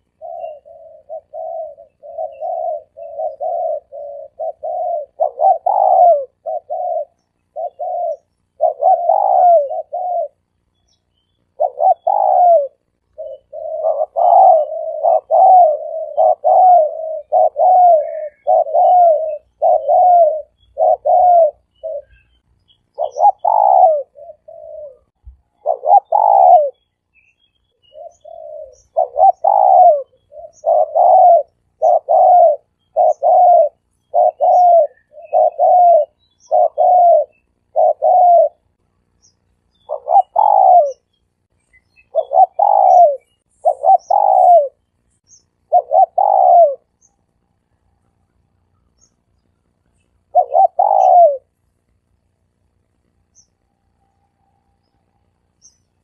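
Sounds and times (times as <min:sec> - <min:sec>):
dove cooing: 0:00.0 - 0:26.8, 0:27.8 - 0:41.2, 0:42.0 - 0:49.1, 0:49.7 - 0:51.6.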